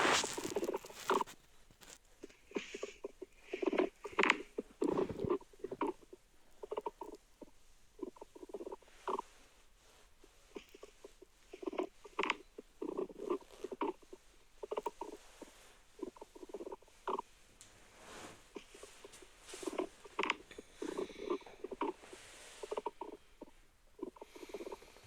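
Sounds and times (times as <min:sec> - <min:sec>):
stomach gurgling and squeaking: 0:00.0 - 0:25.0.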